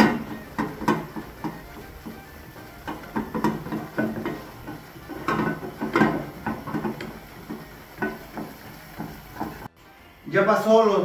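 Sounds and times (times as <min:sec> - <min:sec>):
utensil scraping a cooking pot: 0:00.0 - 0:09.7.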